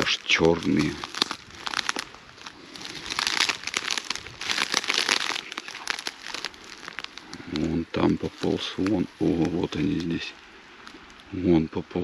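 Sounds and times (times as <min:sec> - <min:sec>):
dry reeds crackling and rustling: 0:00.0 - 0:12.0.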